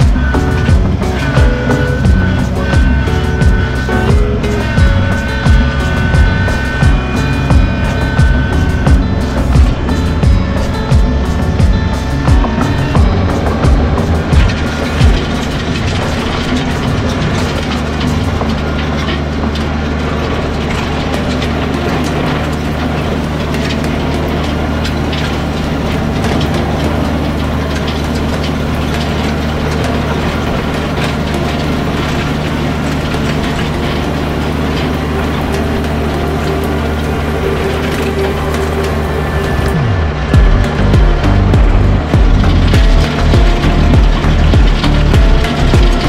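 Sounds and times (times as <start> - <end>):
rattling and clatter: 0.0 - 46.0
tractor diesel engine running: 0.0 - 46.0.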